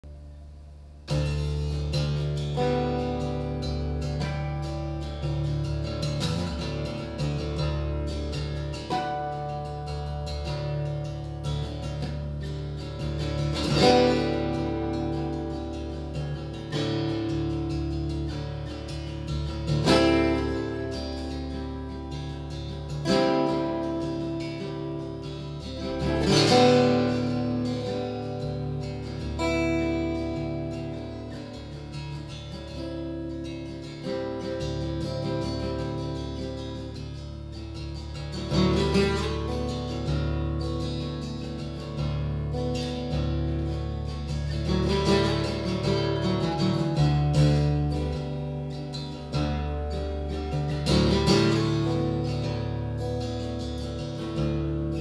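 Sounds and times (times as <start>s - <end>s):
acoustic guitar playing: 0.0s - 55.0s.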